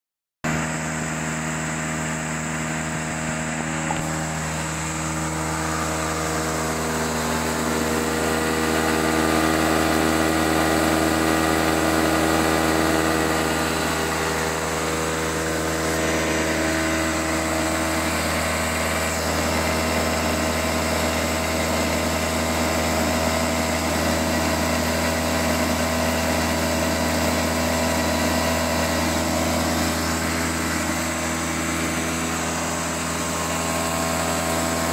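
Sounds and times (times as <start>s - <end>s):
lawnmower engine idling: 0.5s - 34.9s.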